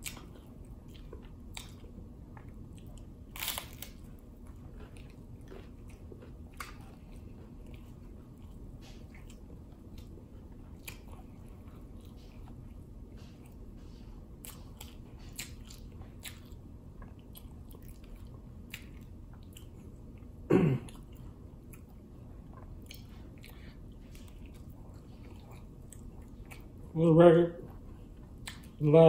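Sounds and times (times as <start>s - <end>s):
crunchy taco chewing: 0.0s - 29.0s.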